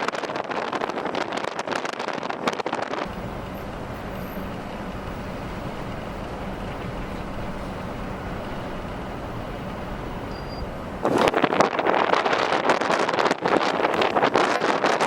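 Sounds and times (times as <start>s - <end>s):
motor vehicle running: 0.1s - 15.0s.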